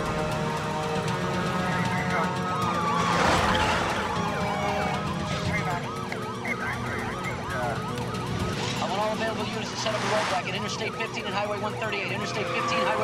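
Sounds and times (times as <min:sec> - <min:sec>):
car engine running: 0:00.0 - 0:13.0
police siren yelping: 0:00.0 - 0:13.0.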